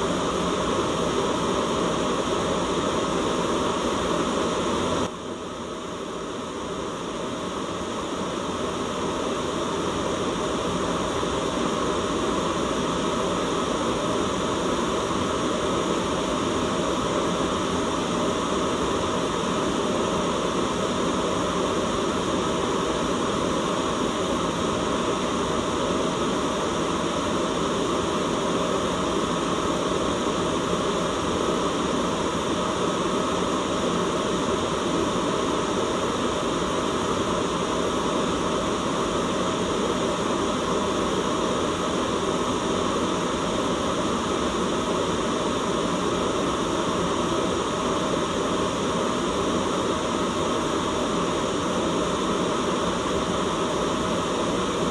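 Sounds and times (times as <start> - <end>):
steady white noise hiss: 0.0 - 54.9.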